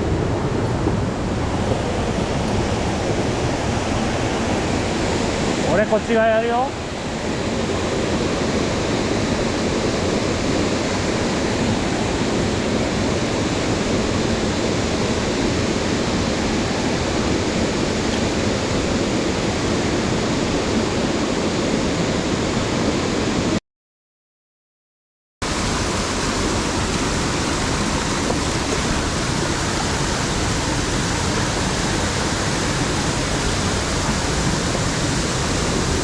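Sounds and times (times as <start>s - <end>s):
stream water rushing: 0.0s - 23.6s, 25.4s - 36.0s.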